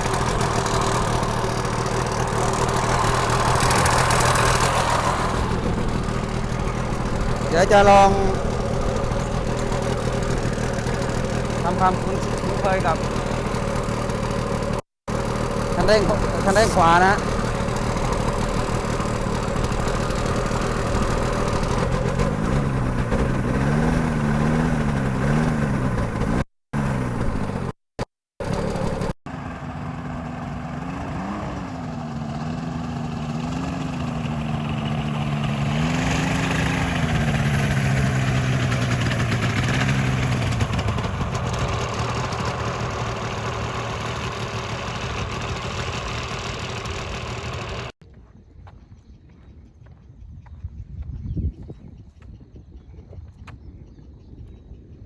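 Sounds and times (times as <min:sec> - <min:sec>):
paramotor engine revving: 0:00.0 - 0:27.8, 0:28.4 - 0:48.0.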